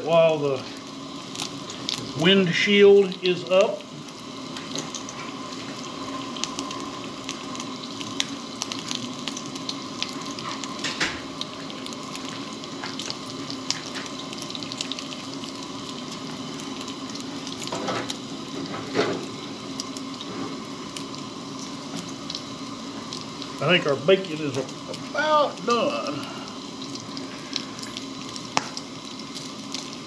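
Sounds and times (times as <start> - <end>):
bacon sizzling in a skillet: 0.0 - 30.0
fat crackling and popping: 0.0 - 30.0.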